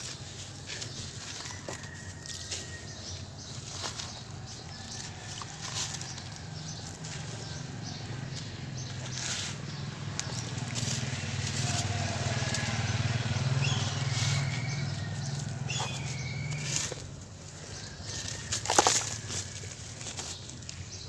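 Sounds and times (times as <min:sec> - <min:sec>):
wet cement crunching and squelching: 0:00.0 - 0:21.0.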